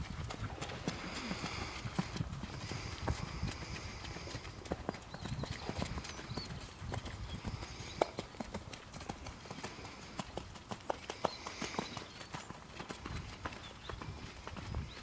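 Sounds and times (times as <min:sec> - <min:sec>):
horse hooves on wet sand: 0:00.0 - 0:15.0.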